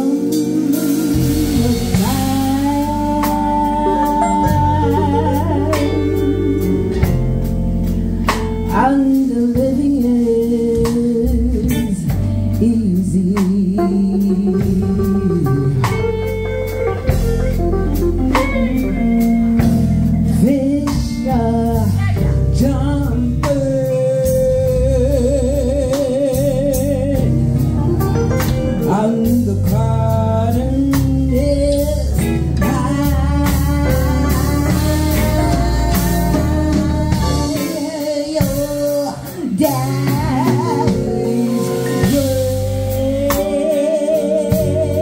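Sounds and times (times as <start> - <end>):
woman singing: 0.0 - 7.6, 8.3 - 27.8, 28.4 - 45.0
drum kit: 0.0 - 45.0
electric guitar: 0.0 - 45.0.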